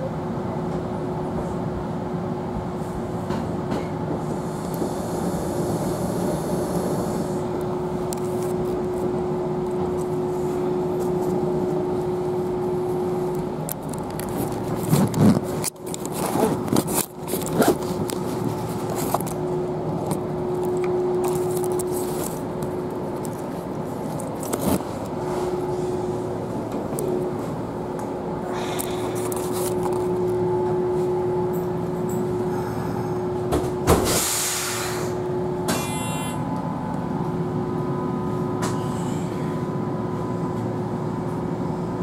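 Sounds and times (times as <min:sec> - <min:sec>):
electric train carriage hum: 0:00.0 - 0:42.0.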